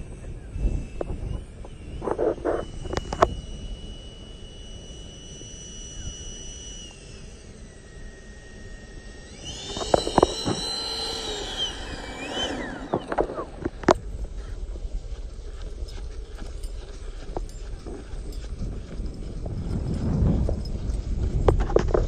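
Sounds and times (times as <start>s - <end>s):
electric fan motor whining: 0.0s - 22.0s.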